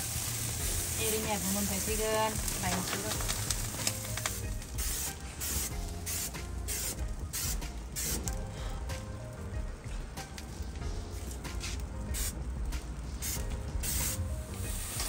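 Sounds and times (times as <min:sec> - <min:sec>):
grill hissing and sizzling: 0:00.0 - 0:15.0.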